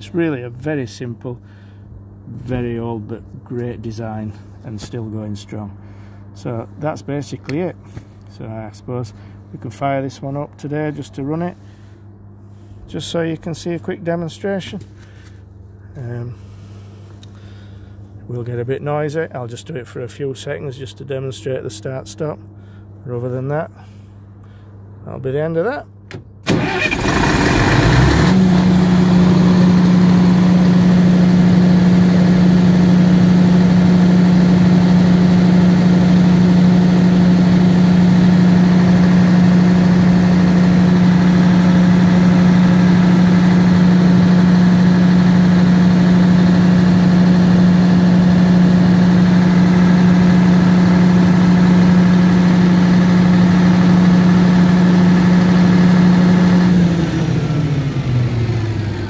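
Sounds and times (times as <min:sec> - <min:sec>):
generator engine humming: 0:00.0 - 0:59.0.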